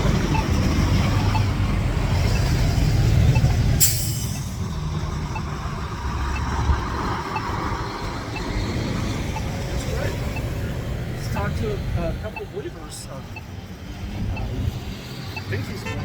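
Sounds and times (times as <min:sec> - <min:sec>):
heavy vehicle engine rumbling: 0:00.0 - 0:16.0.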